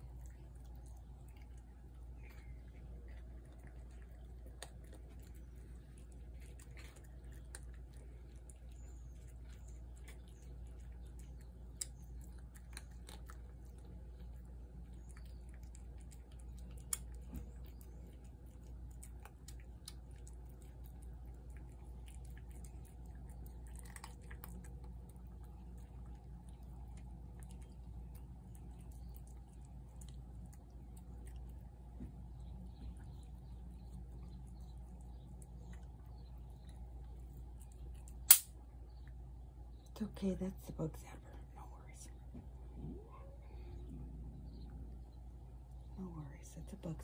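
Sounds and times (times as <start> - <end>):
cats chewing and lapping food: 0.0 - 47.0
steady low hum: 0.0 - 47.0.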